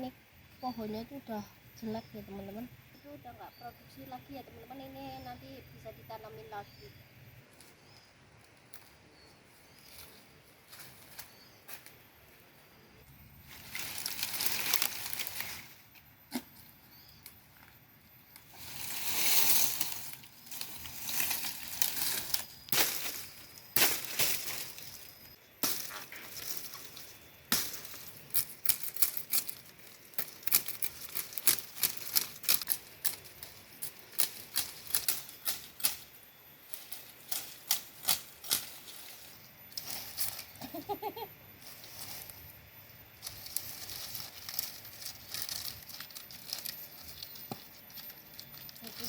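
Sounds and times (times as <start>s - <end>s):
dry plants rustling and crackling: 4.7s - 49.0s.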